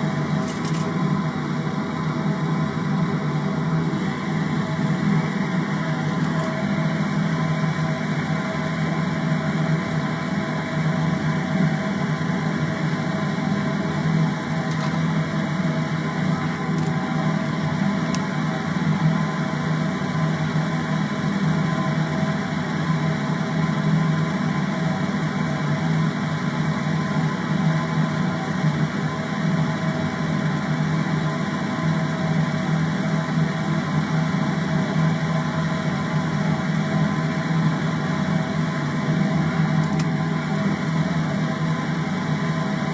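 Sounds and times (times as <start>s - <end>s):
electric fan humming: 0.0s - 29.7s, 34.2s - 42.9s.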